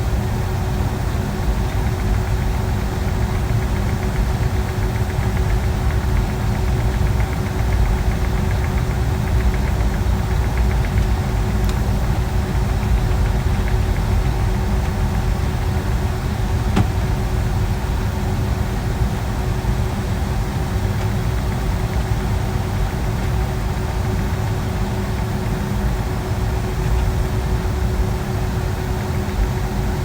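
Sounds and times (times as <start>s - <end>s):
jet engines rumbling in cabin: 0.0s - 30.0s.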